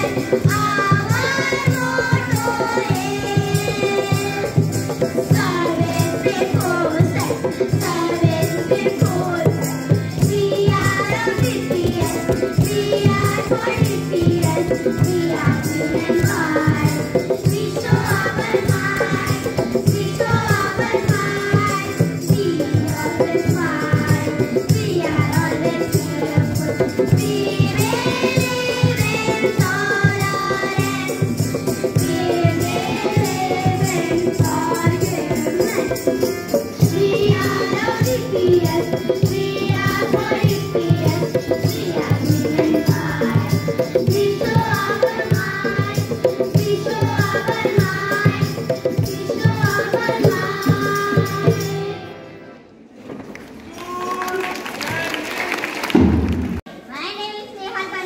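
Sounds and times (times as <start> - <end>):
fast percussion rhythm: 0.0 - 52.1, 53.9 - 56.7
children singing: 0.0 - 52.3
instrumental accompaniment: 0.0 - 53.3.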